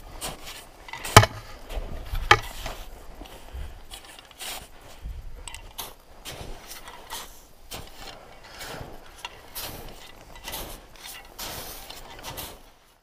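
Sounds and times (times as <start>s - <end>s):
ice axes striking snow: 0.0s - 13.0s
rustling: 0.0s - 13.0s.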